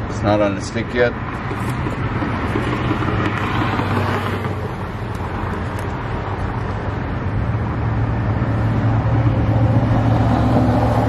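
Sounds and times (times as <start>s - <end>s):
motor oil pouring through funnel: 0.0s - 11.0s.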